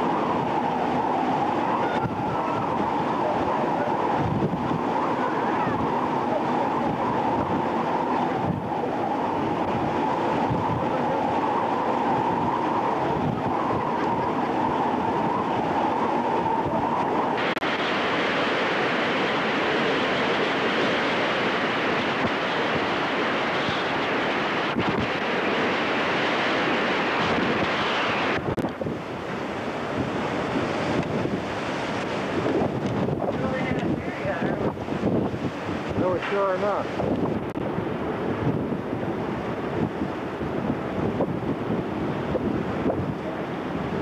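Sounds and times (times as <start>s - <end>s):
rough sea rushing: 0.0s - 44.0s
wind buffeting microphone: 0.0s - 44.0s.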